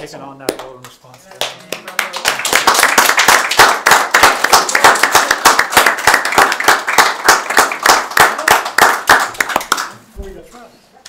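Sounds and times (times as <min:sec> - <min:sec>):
people applauding: 0:00.6 - 0:10.0.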